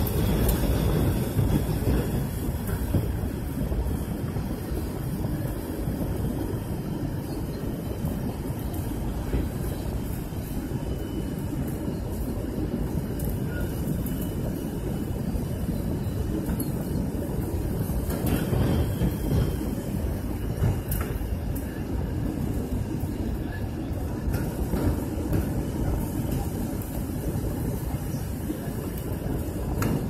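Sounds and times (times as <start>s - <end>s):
jet engine cabin rumble: 0.0s - 30.0s.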